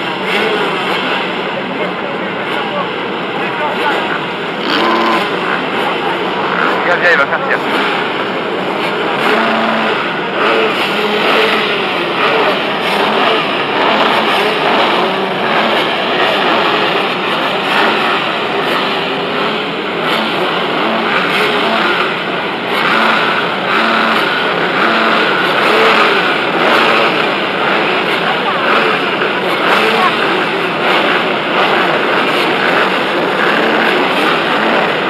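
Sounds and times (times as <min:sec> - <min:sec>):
motocross bikes revving: 0:00.0 - 0:35.0.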